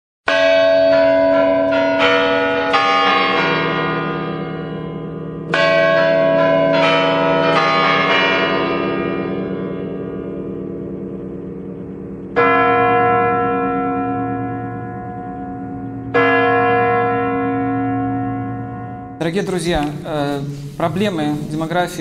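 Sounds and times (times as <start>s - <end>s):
church bells ringing: 0.3s - 22.0s.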